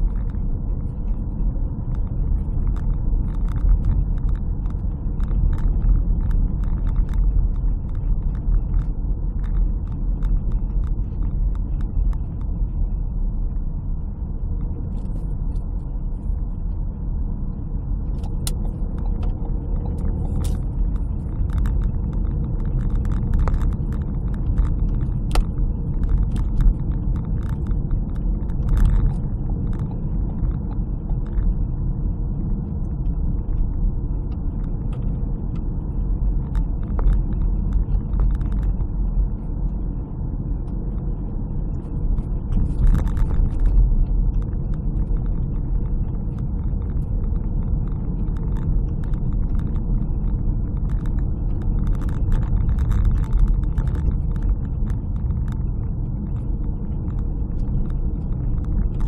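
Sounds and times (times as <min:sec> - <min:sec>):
car driving on snowy road: 0:00.0 - 0:59.0.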